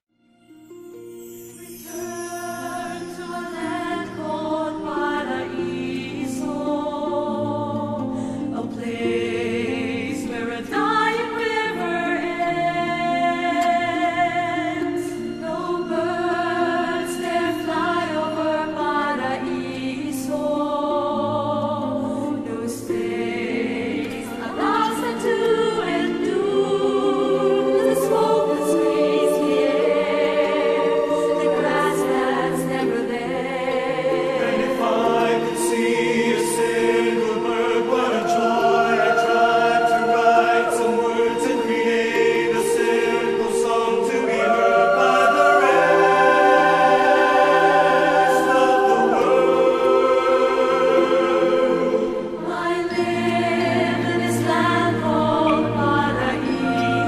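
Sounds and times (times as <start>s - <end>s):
choir singing held notes: 0.9s - 57.0s.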